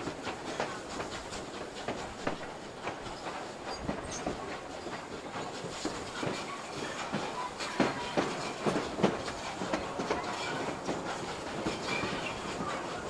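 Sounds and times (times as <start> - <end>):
train running rumble: 0.0 - 13.0
train wheels clacking over rail joints: 0.0 - 13.0.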